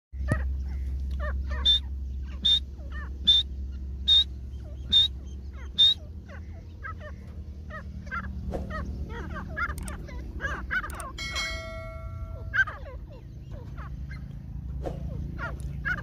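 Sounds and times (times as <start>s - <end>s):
birds chittering: 0.2s - 16.0s
sharp bird calls: 0.2s - 16.0s.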